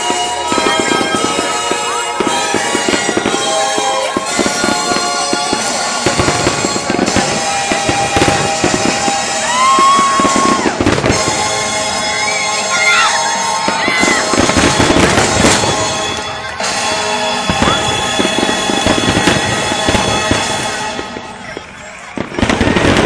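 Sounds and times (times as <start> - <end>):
fireworks bursting: 0.0 - 23.0
fireworks whistling: 0.0 - 23.0
music soundtrack: 0.0 - 23.0.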